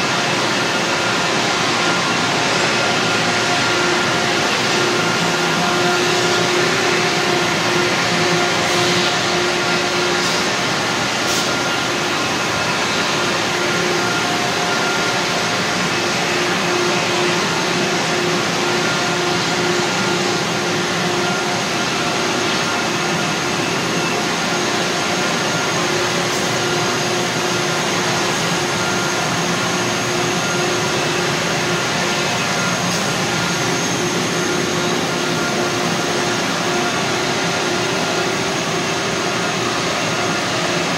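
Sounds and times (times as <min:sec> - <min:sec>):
industrial machinery hiss and hum: 0:00.0 - 0:40.9.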